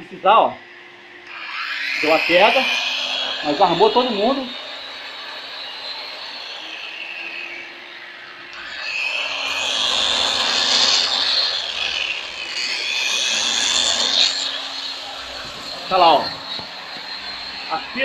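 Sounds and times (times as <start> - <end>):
electric drill: 0.0 - 18.0
saw motor whining: 0.0 - 18.0
vacuum cleaner: 0.0 - 18.0.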